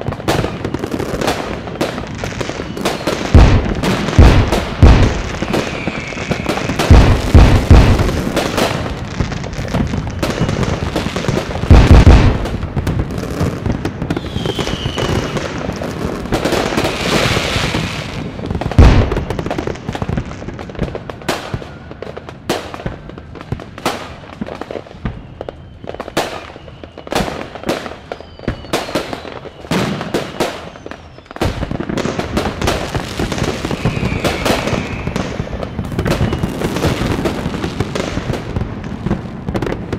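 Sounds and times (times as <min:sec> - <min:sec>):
heavy firework booms: 0:00.0 - 0:25.3, 0:31.4 - 0:39.9
fireworks crackling and popping: 0:00.0 - 0:39.9.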